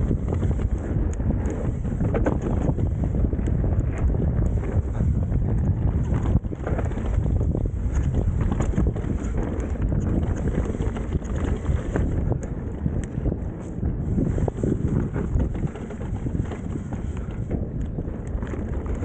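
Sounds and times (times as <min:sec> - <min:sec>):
bike rattling over rough ground: 0:00.0 - 0:19.0
bike tyre noise: 0:00.0 - 0:19.0
wind rushing over microphone: 0:00.0 - 0:19.0.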